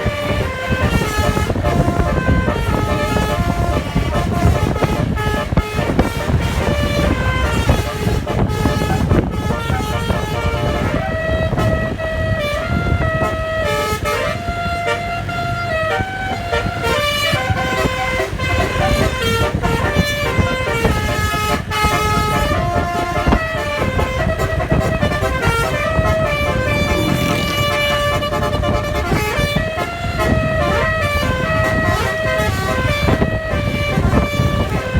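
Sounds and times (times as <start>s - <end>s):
multi-tone bus horn melody: 0.0s - 34.9s
traffic rumble: 0.0s - 34.9s.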